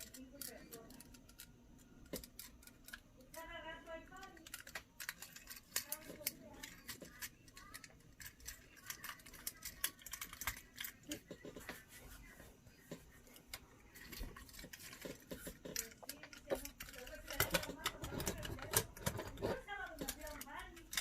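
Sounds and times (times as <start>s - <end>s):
plastic toy parts clicking and snapping: 0.0s - 11.8s, 12.9s - 21.0s.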